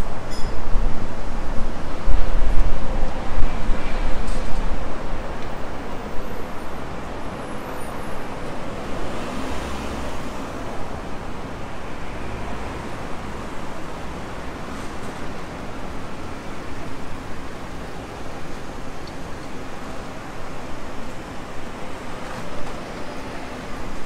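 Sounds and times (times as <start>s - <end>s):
road traffic passing: 0.0s - 24.0s.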